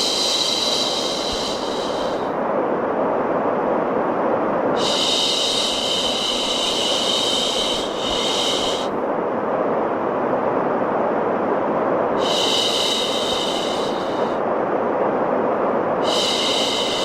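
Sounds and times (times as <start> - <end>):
white noise: 0.0 - 17.0.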